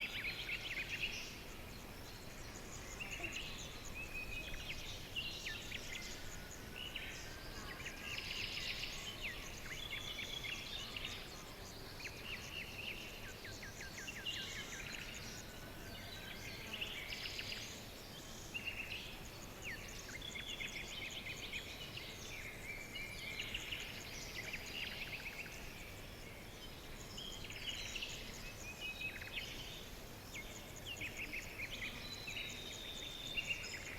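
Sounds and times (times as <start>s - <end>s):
birds singing and chirping: 0.0s - 33.9s
low steady hiss: 0.0s - 33.9s.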